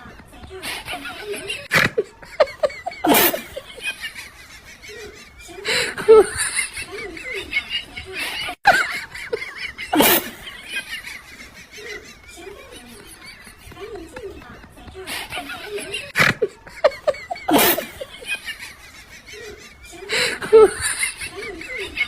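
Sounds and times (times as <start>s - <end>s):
people laughing: 0.0s - 22.0s.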